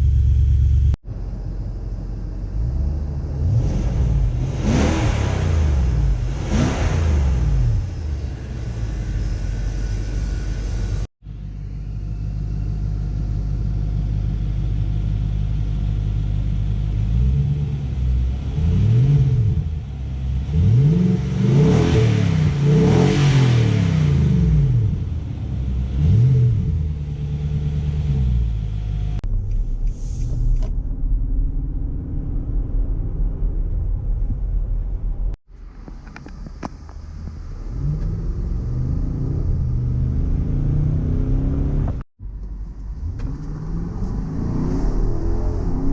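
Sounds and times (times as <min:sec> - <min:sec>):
car engine accelerating from inside: 0:00.0 - 0:13.7, 0:16.2 - 0:45.9
car engine idling and revving: 0:00.0 - 0:45.9.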